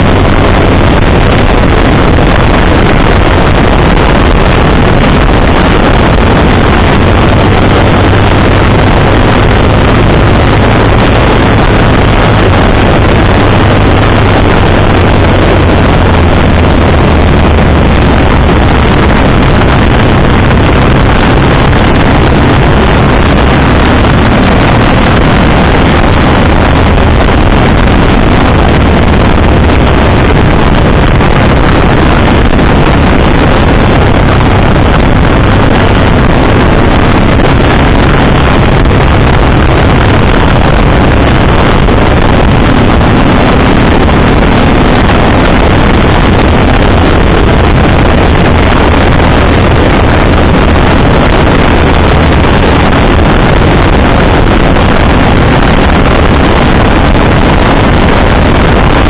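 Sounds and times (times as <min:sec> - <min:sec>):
motorcycle engine running: 0:00.0 - 0:53.3
wind rushing on microphone: 0:00.0 - 0:59.0.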